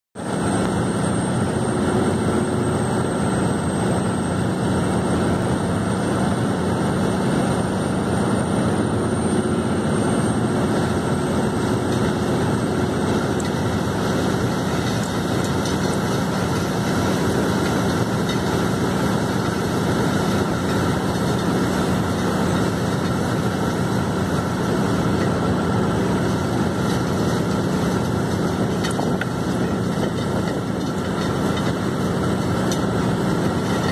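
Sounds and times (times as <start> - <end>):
rig engine running: 0.2 - 33.9.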